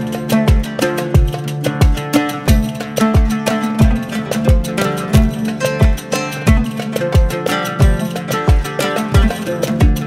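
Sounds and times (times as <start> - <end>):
plucked guitar-like notes: 0.0 - 10.0.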